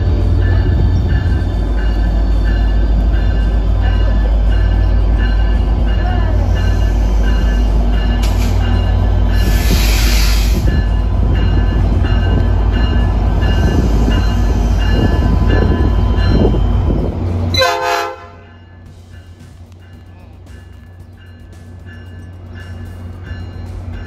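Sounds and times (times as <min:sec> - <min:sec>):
diesel train engine and wheels rumbling: 0:00.0 - 0:24.0.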